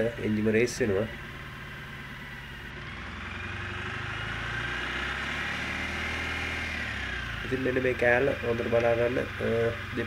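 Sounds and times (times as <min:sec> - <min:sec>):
diesel engine revving: 0:00.0 - 0:10.0
engine whine rising in pitch: 0:00.8 - 0:10.0.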